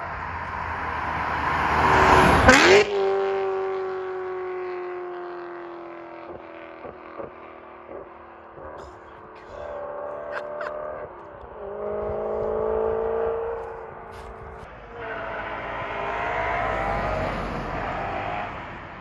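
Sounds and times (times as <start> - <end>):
car engine driving away: 0.0 - 19.0.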